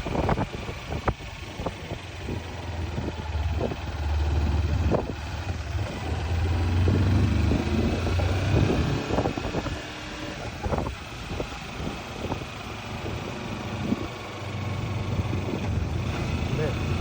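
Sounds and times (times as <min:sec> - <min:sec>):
wind rushing over microphone: 0:00.0 - 0:03.8, 0:04.4 - 0:17.0
motorcycle engine running: 0:00.0 - 0:17.0.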